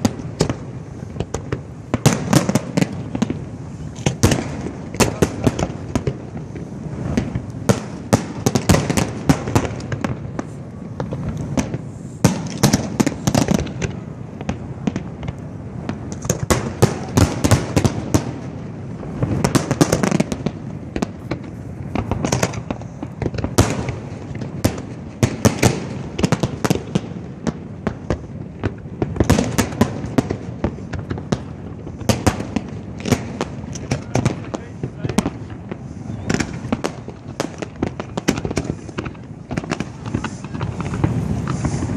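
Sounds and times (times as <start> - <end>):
fireworks cracks and bangs: 0.0 - 41.9.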